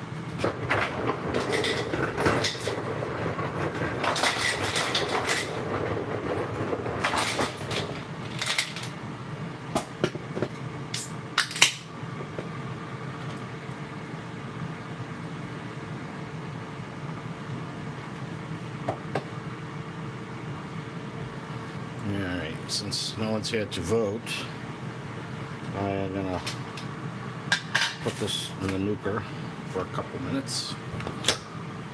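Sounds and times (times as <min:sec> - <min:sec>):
steady background hum: 0:00.0 - 0:31.9.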